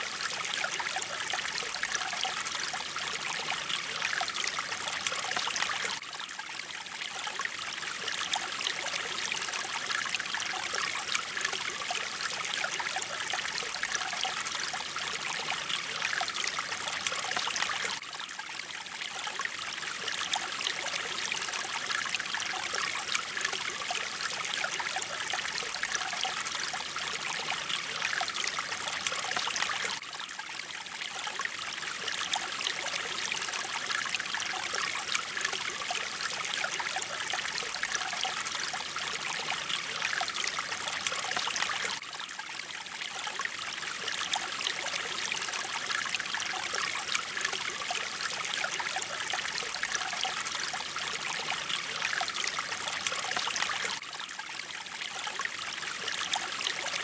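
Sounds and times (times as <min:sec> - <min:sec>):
rush of running water: 0:00.0 - 0:57.0.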